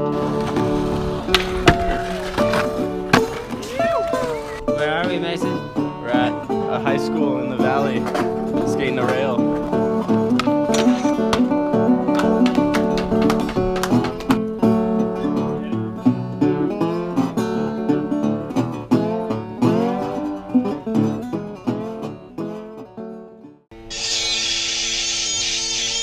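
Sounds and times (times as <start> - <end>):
guitar with bent notes: 0.0 - 26.0.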